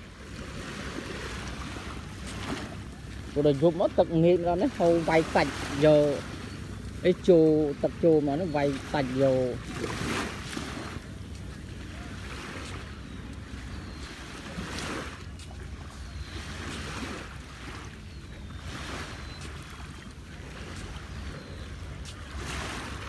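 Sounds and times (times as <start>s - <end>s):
small waves lapping on sand: 0.0s - 23.0s.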